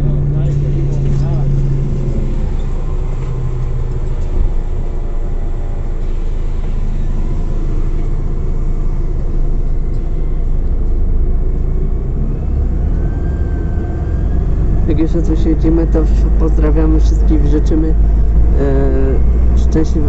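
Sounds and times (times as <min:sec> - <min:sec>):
bus engine and road rumble: 0:00.0 - 0:20.0
faint engine tone: 0:00.0 - 0:20.0.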